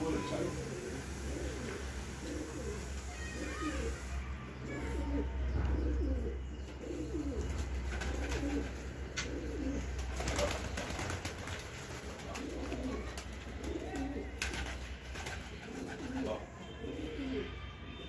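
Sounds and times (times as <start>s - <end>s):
pigeons cooing: 0.0s - 17.6s.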